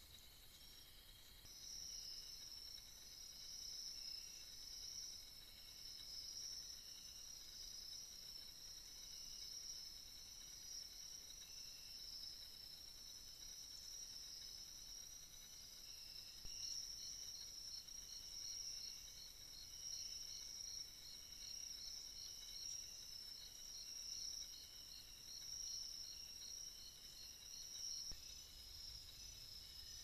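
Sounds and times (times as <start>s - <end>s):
cricket chirping: 0.0s - 30.0s
insects buzzing: 0.0s - 30.0s.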